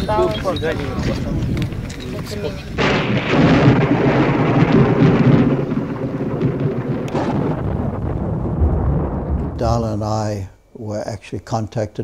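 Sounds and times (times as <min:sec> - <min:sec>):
thunder rolling: 0:00.0 - 0:10.6.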